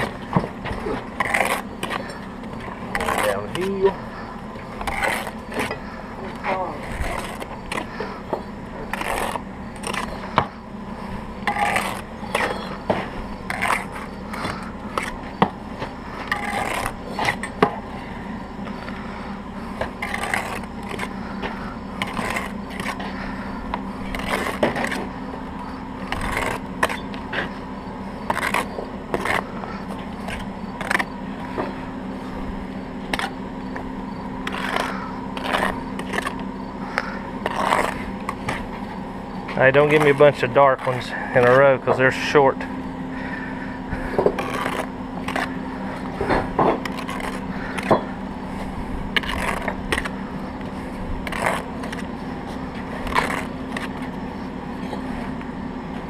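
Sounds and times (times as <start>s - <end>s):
trowel scraping mortar: 0.0s - 39.0s, 39.6s - 55.4s
steady low hum: 0.0s - 56.0s.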